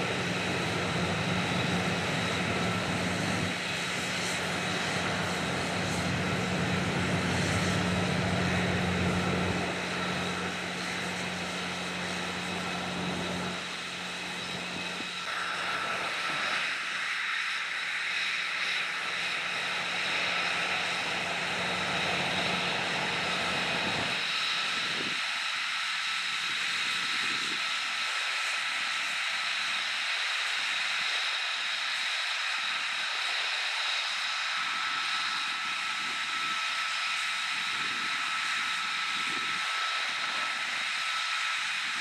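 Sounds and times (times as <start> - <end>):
jet engine whine: 0.0 - 42.0.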